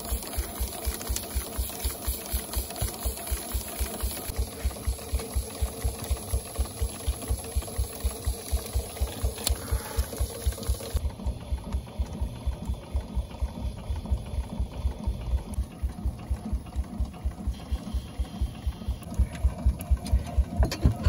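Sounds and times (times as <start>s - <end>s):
steam traction engine running: 0.0s - 21.0s.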